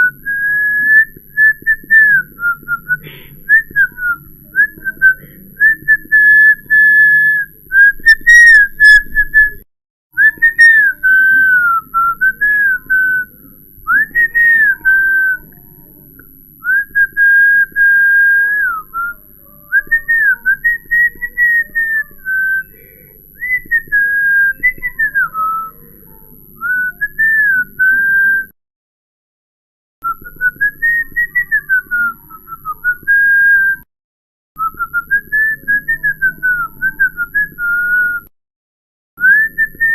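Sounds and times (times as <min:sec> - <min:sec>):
person whistling a tune: 0:00.0 - 0:09.6, 0:10.2 - 0:13.3, 0:13.9 - 0:15.6, 0:16.6 - 0:25.8, 0:26.6 - 0:28.6, 0:30.0 - 0:33.9, 0:34.6 - 0:38.3, 0:39.2 - 0:39.9.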